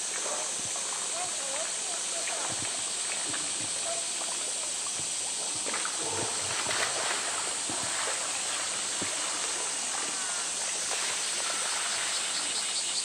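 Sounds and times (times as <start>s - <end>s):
water splashing and lapping: 0.0s - 12.7s
steady rush of water: 0.0s - 13.0s.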